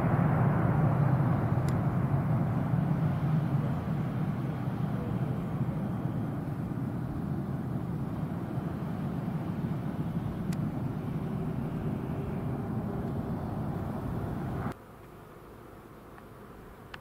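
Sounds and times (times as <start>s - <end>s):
jet engines low rumble: 0.0s - 14.8s.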